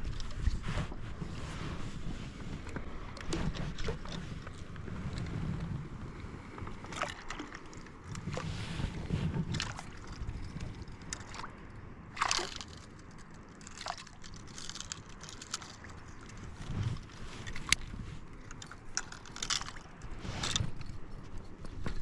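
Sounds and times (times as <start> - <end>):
low wind rumble: 0.0 - 22.0
water sloshing against boat: 0.0 - 22.0.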